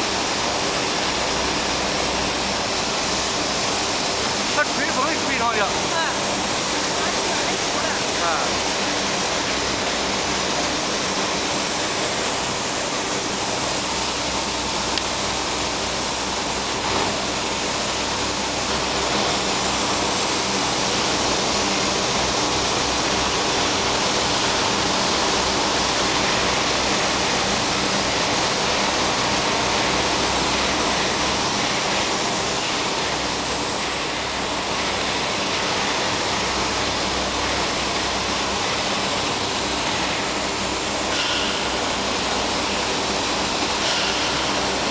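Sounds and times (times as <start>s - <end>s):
paper machine rollers running: 0.0s - 44.9s.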